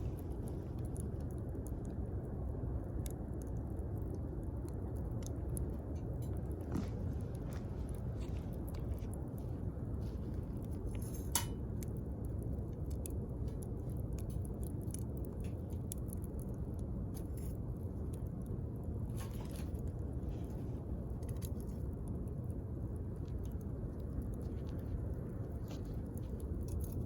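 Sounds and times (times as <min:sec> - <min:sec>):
campfire crackling and popping: 0:00.0 - 0:27.0
low rumble of burning fire: 0:00.0 - 0:27.0.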